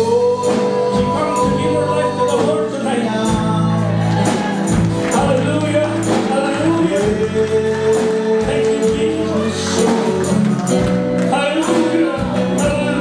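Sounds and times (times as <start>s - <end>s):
drums: 0.0s - 13.0s
electric guitar: 0.0s - 13.0s.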